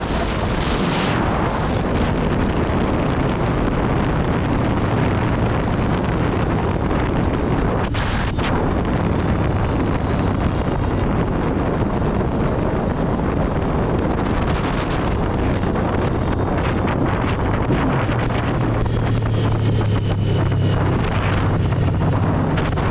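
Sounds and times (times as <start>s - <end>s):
motorcycle engine running at speed: 0.0s - 22.9s
wind noise on microphone: 0.0s - 22.9s.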